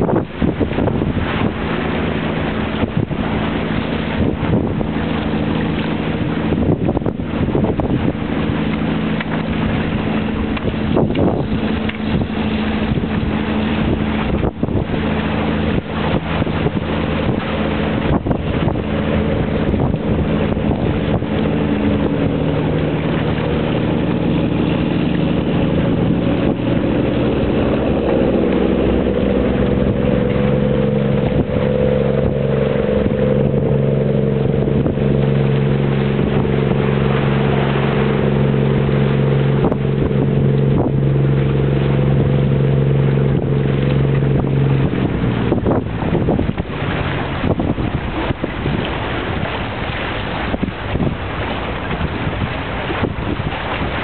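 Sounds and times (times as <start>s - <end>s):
boat engine droning: 0.0s - 54.0s
wind buffeting microphone: 0.0s - 54.0s.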